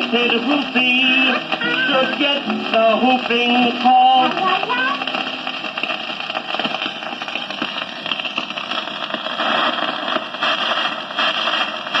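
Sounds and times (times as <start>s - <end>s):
record surface hiss and crackle: 0.0s - 12.0s.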